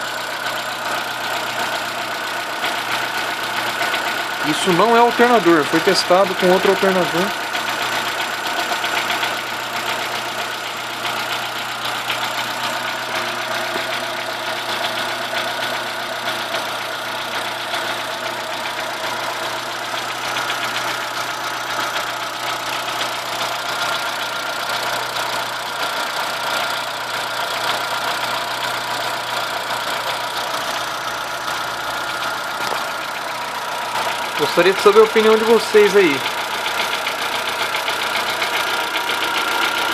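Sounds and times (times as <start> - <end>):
abnormal engine noise: 0.0 - 39.9
car engine idling: 0.0 - 39.9.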